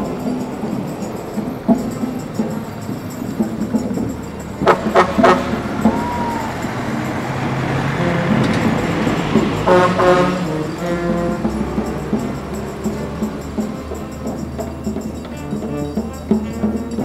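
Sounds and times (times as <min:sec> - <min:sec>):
brass band funeral march: 0:00.0 - 0:17.0
held brass horn notes: 0:00.0 - 0:17.0
rushing street noise: 0:00.0 - 0:17.0.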